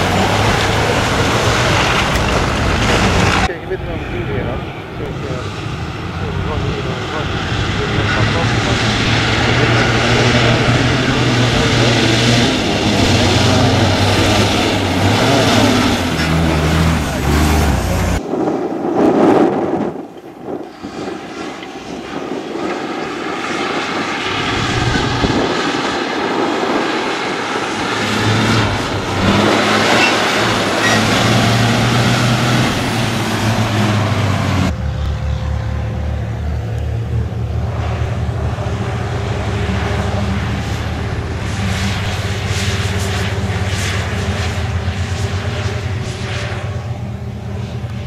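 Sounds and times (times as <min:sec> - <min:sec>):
diesel truck engine running hard: 0:00.0 - 0:18.8, 0:20.3 - 0:48.0.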